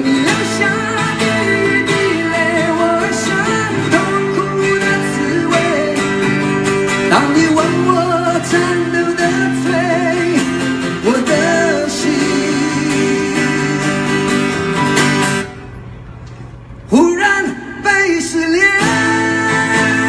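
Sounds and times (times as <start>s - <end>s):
man singing: 0.0s - 14.5s, 16.9s - 20.0s
acoustic guitars strummed: 0.0s - 16.2s, 17.0s - 20.0s.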